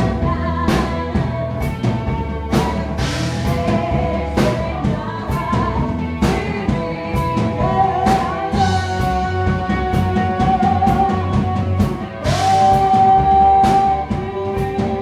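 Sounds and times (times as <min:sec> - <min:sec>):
bass line: 0:00.0 - 0:15.0
drum kit with cymbal crashes: 0:00.0 - 0:15.0.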